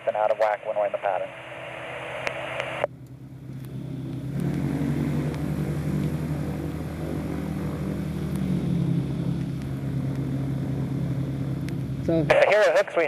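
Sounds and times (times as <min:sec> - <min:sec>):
gyroplane engine and propeller: 0:00.0 - 0:13.0.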